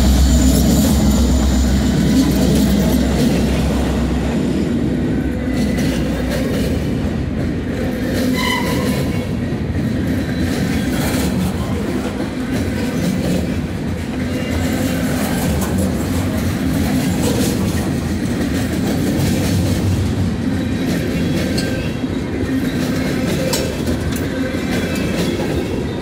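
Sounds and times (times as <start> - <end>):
steel wheels rumbling on rails: 0.0 - 26.0.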